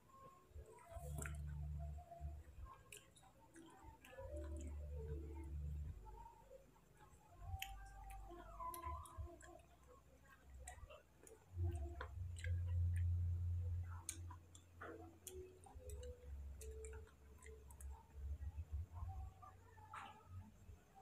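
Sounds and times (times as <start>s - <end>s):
mouth chewing clicks and smacks: 0.1s - 5.9s, 6.9s - 20.6s.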